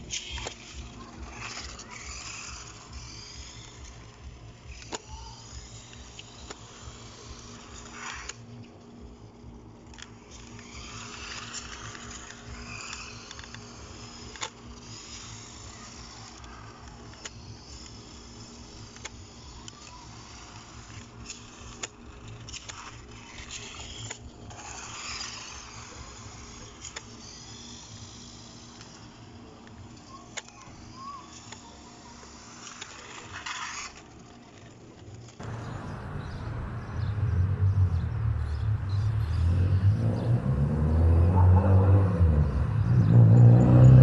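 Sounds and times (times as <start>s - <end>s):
electric motor and gears whirring: 0.0s - 44.0s
steady low hum: 0.0s - 44.0s.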